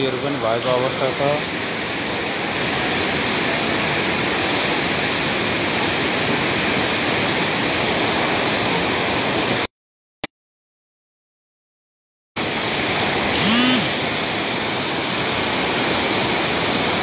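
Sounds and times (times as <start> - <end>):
river torrent rushing: 0.0 - 9.7, 12.4 - 17.0.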